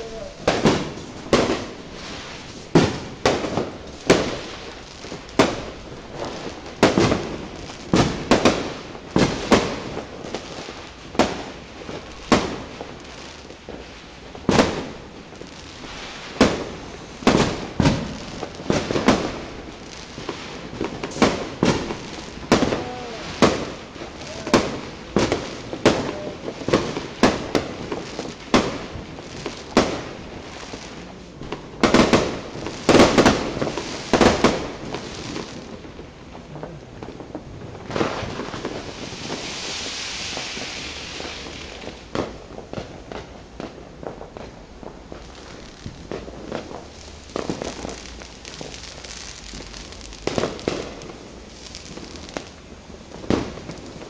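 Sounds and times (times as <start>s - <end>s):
fireworks bangs and cracks: 0.0s - 54.0s.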